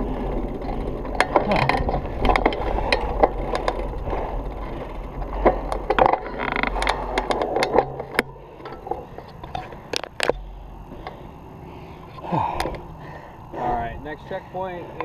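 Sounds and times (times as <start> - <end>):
bike clicks and rattles: 0.0 - 15.0
bike tyres rumbling on dirt: 0.0 - 15.0.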